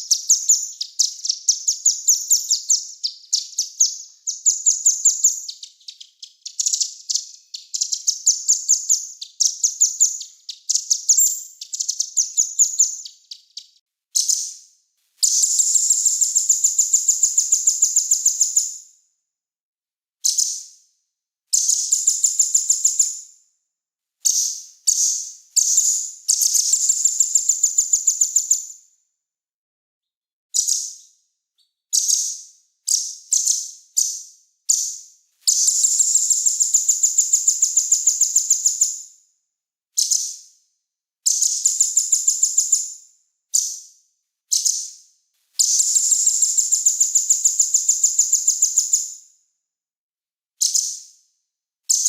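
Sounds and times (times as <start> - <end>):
small songbird trilling and chirping: 0.0 - 18.8, 20.2 - 20.8, 21.5 - 23.3, 24.2 - 28.8, 30.5 - 39.1, 40.0 - 40.5, 41.2 - 49.2, 50.6 - 51.2.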